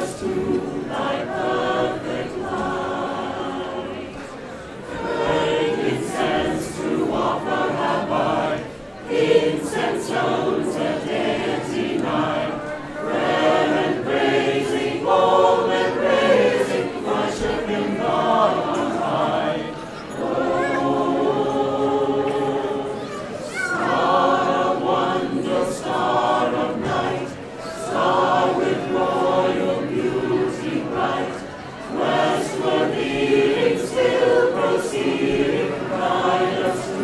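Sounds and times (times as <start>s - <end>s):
choir singing a carol: 0.0s - 37.0s.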